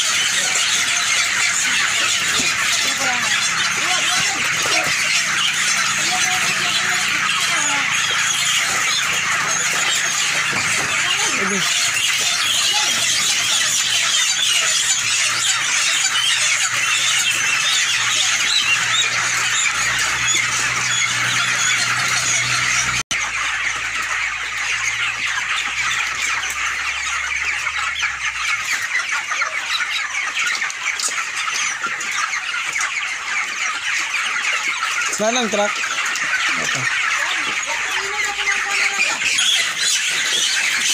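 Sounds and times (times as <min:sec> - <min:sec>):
chickens cheeping and squealing: 0:00.0 - 0:40.9.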